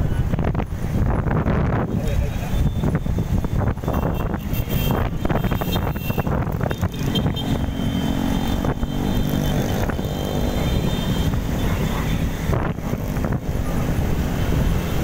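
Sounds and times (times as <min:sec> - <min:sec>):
motorcycles and scooters riding: 0:00.0 - 0:15.0
wind rumbling on microphone: 0:00.0 - 0:15.0.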